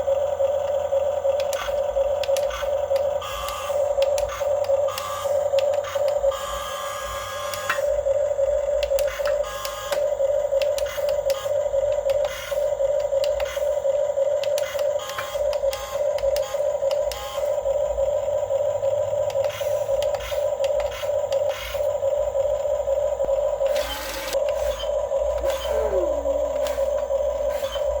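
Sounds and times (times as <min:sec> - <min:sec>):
tracks clicking and rattling: 0:00.0 - 0:06.3, 0:07.4 - 0:18.0, 0:18.6 - 0:28.0
electric motors whining: 0:00.0 - 0:28.0.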